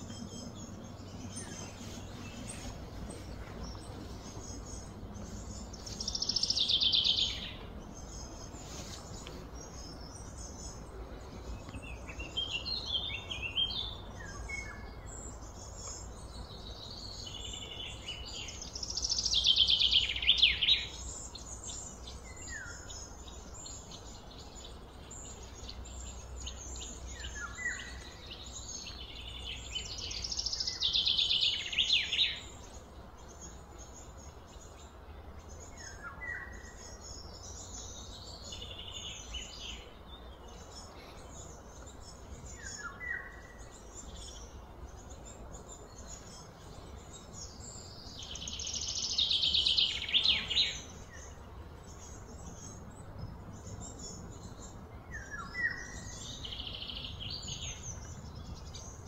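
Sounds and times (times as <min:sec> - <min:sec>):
birds singing and calling: 0:00.0 - 0:59.0.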